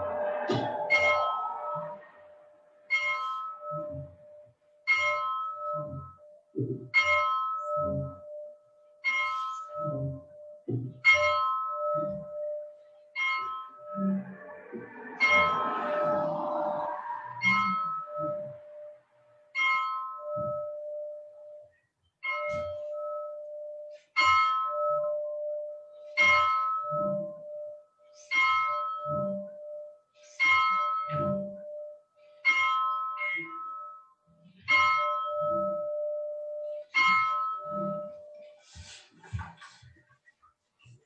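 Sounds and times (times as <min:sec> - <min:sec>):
bell tolling slowly: 0:00.0 - 0:39.5.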